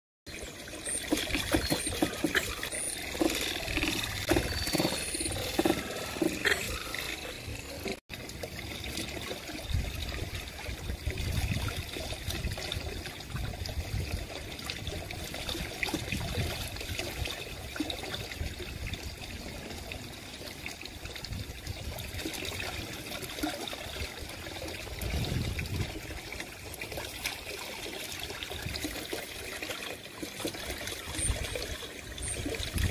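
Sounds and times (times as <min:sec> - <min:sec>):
waterfall pouring into pool: 0:00.3 - 0:32.9.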